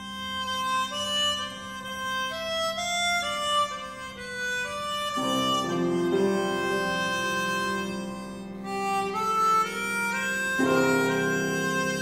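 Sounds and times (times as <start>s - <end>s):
harmonica melody: 0.0s - 12.0s
hurdy-gurdy drone: 0.0s - 12.0s.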